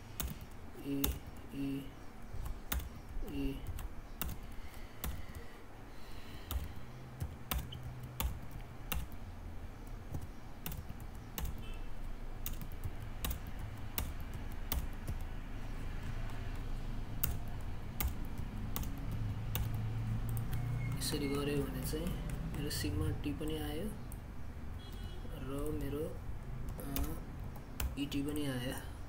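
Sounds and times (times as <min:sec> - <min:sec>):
keyboard typing: 0:00.0 - 0:05.6, 0:06.3 - 0:24.2, 0:25.5 - 0:28.7.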